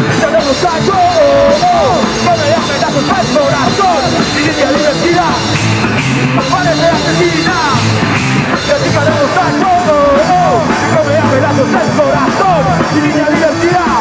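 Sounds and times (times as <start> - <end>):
punk rock band playing: 0.0 - 14.0
wavering lead guitar line: 0.0 - 14.0.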